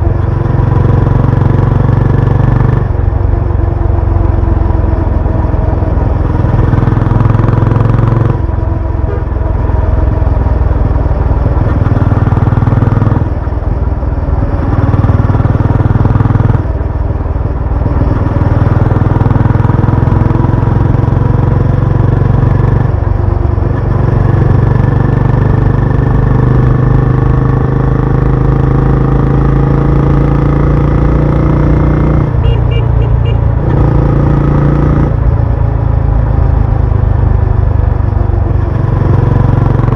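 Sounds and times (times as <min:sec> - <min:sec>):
loud motorcycle engine and exhaust: 0:00.0 - 0:39.9.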